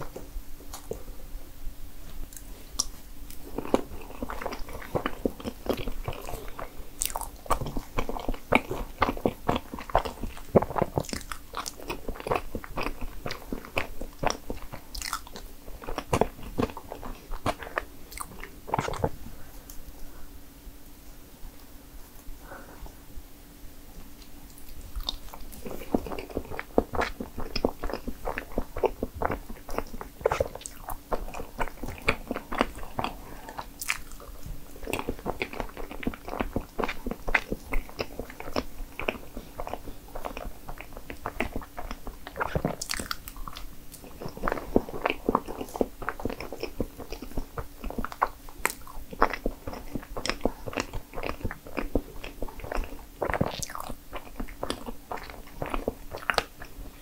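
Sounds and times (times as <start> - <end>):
soft chewing: 0.0 - 1.4, 2.0 - 23.1, 23.8 - 57.0.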